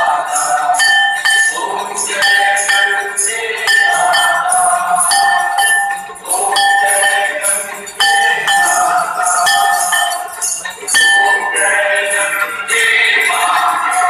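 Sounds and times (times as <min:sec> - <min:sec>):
temple bells ringing: 0:00.0 - 0:14.0.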